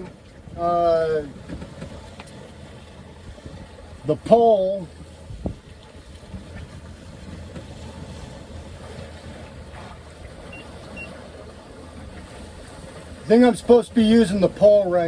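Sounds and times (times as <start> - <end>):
wind and water wash: 0.0 - 15.0.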